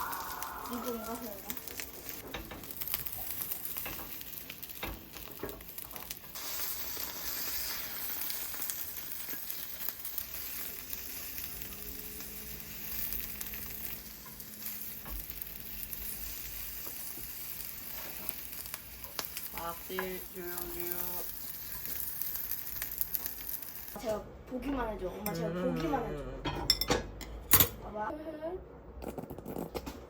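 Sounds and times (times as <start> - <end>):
food sizzling in a pan: 0.0 - 24.2.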